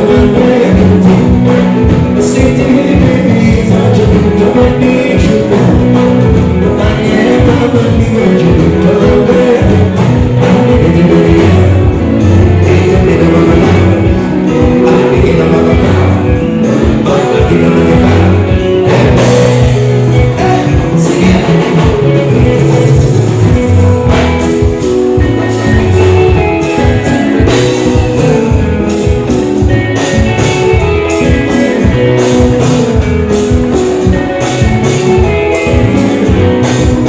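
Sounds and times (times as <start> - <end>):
guitar: 0.0 - 37.0
person singing: 0.0 - 37.0
steady drum beat: 0.0 - 37.0.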